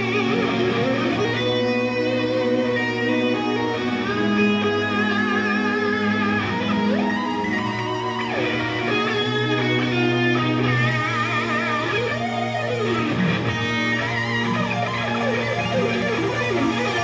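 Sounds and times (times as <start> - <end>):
electric guitar lead with vibrato: 0.0 - 17.0.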